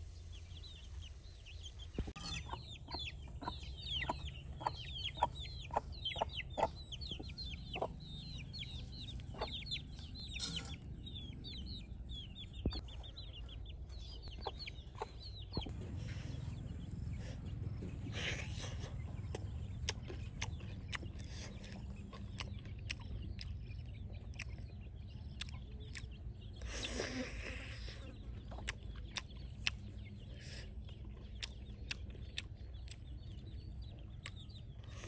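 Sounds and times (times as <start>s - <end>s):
chickens peeping and clucking: 0.0s - 35.0s.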